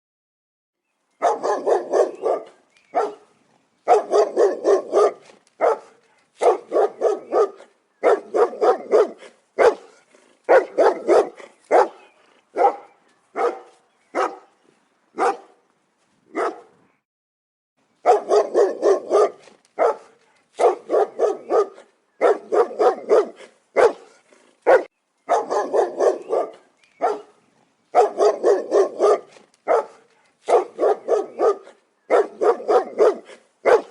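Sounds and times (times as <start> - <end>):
dog barking deeply: 1.2 - 14.5, 15.2 - 15.6, 16.3 - 16.7, 18.0 - 33.9.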